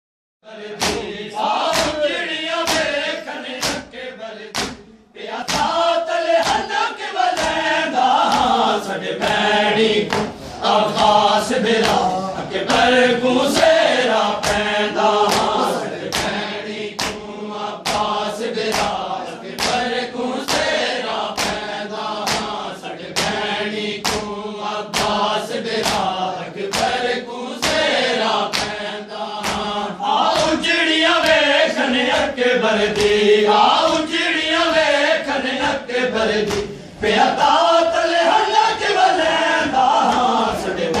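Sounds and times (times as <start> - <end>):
men chanting: 0.4 - 41.0
hands slapping chests: 0.8 - 31.5, 32.1 - 34.1, 36.4 - 37.6, 40.0 - 41.0.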